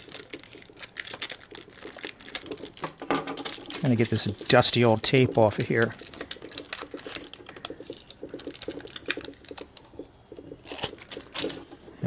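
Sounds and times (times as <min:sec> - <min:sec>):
table creaking and squeaking: 0:00.6 - 0:12.0.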